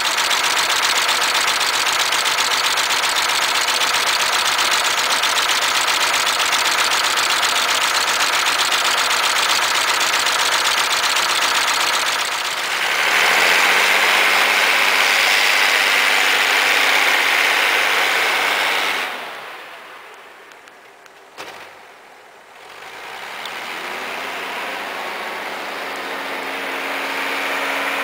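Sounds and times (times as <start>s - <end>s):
diesel engine idling and revving: 0.0s - 20.3s, 22.5s - 28.0s.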